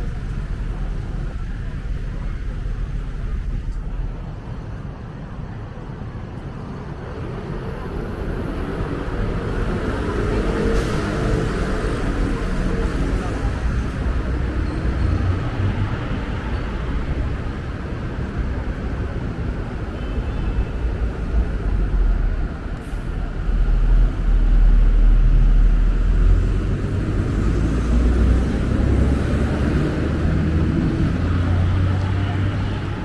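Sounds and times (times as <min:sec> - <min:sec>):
vehicle rumble: 0:00.0 - 0:33.0.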